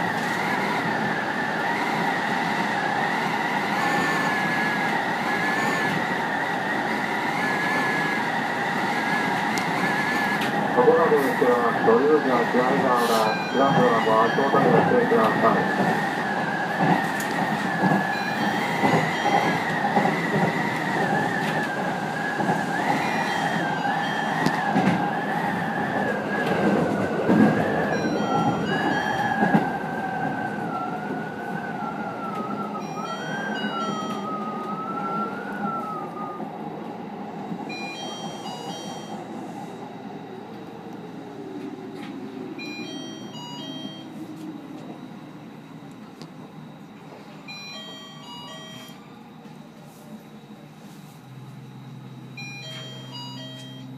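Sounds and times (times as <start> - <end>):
electric train motor whine: 0.0 - 37.0, 37.7 - 53.9
train running rumble: 0.0 - 48.8.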